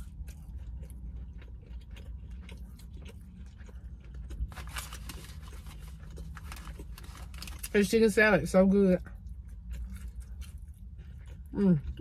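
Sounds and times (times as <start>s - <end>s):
close-up wet chewing: 0.0s - 12.0s
low steady rumble: 0.0s - 12.0s.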